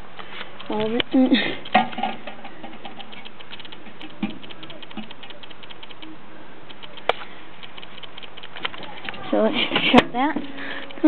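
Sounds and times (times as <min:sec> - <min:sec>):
aluminium foil crinkling: 0:00.2 - 0:06.1, 0:06.7 - 0:11.0.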